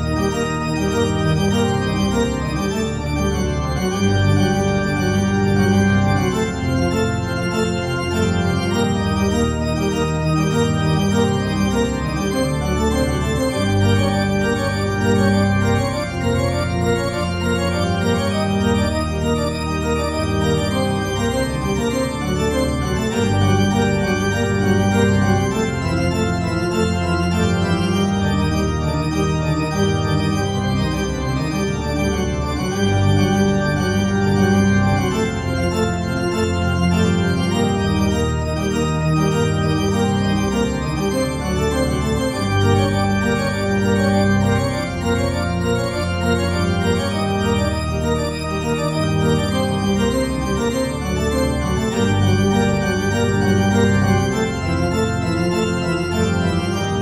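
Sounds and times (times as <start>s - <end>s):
slow organ chords: 0.0s - 57.0s.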